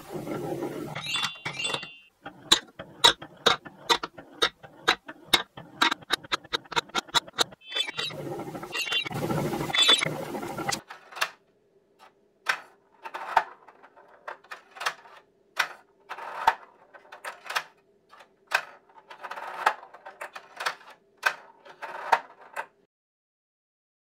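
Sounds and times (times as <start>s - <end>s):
plastic balls clacking down ramps: 0.0s - 11.4s, 12.5s - 22.8s.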